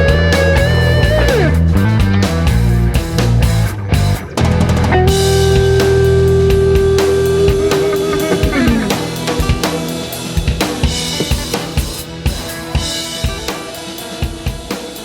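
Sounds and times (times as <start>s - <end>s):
rock music with drums: 0.0s - 15.0s.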